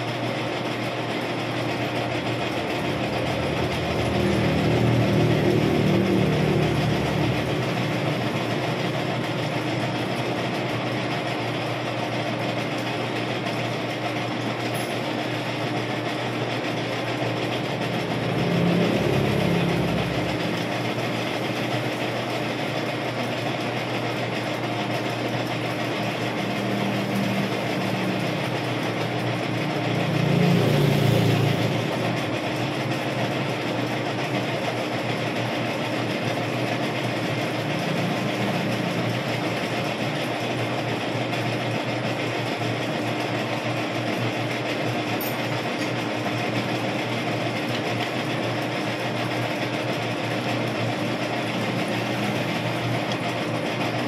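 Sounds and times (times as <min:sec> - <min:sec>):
metal lathe humming and whirring: 0:00.0 - 0:54.0.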